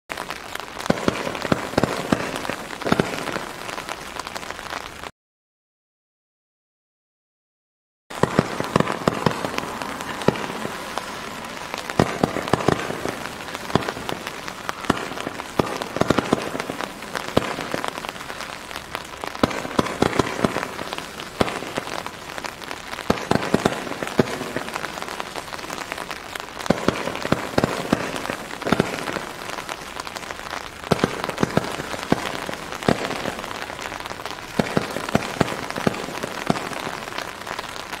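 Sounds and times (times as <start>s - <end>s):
fireworks fizzing hiss: 0.1s - 4.9s, 8.2s - 38.0s
fireworks sharp pops: 0.1s - 5.1s, 8.1s - 38.0s.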